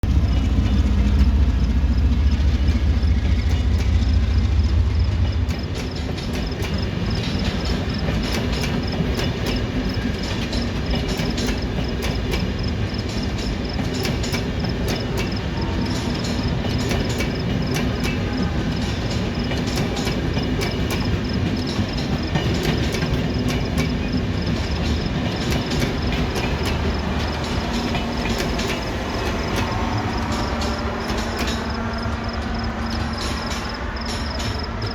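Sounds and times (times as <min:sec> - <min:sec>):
train rumbling on rails: 0:00.0 - 0:34.9
train wheels clicking: 0:00.0 - 0:34.9.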